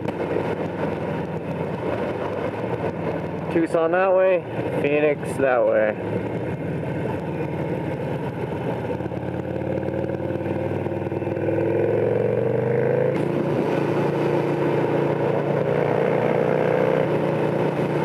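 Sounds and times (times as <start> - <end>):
motorcycle engine accelerating: 0.0 - 5.3, 6.0 - 18.0.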